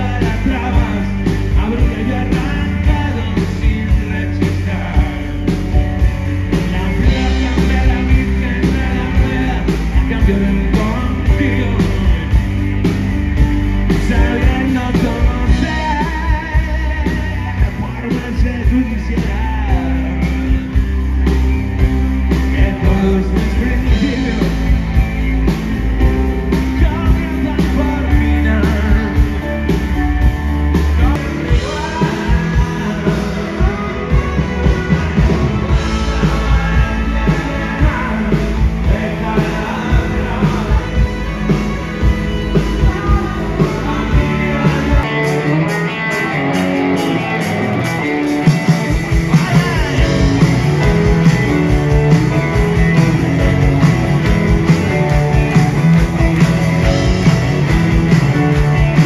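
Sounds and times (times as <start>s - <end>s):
person singing: 0.0s - 12.9s, 13.8s - 25.6s, 26.2s - 59.0s
rock band playing live: 0.0s - 59.0s.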